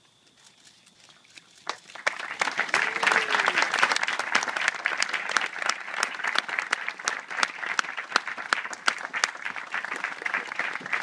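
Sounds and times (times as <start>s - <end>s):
crowd applauding: 1.7s - 11.0s.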